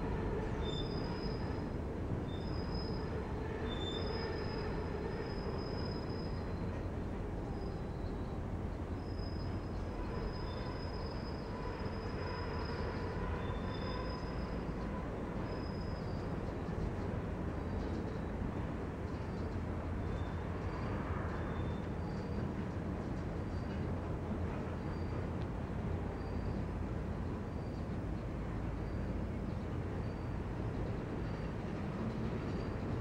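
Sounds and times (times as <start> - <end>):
train wheels squealing: 0.0 - 33.0.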